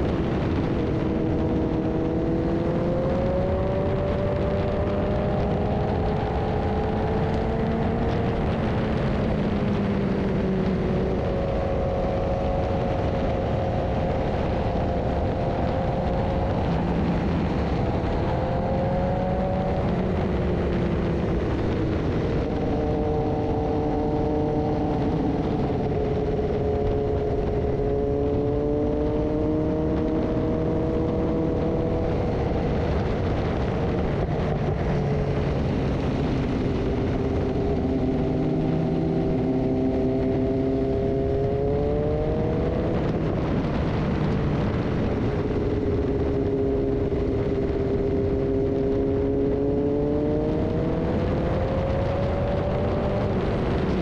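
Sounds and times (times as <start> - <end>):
motorcycle engine cruising: 0.0 - 54.0
wind noise on camera: 0.0 - 54.0.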